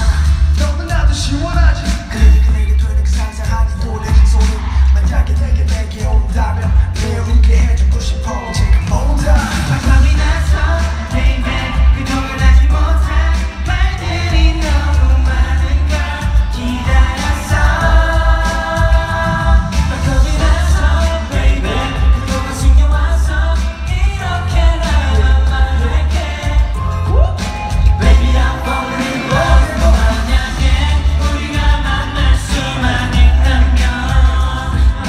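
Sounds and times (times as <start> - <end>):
backing track with pulsing bass: 0.0 - 35.0
male vocal group singing pop: 0.0 - 35.0.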